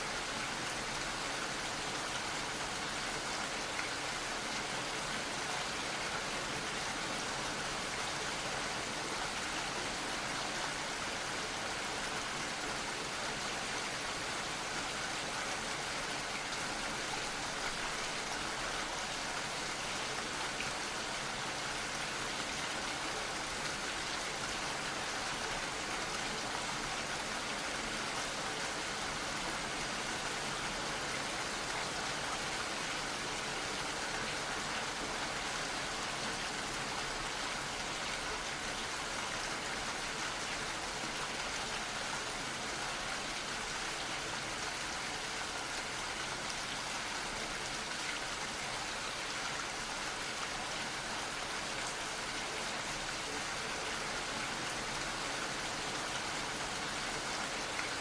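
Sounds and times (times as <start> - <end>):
gentle rain falling: 0.0 - 58.0.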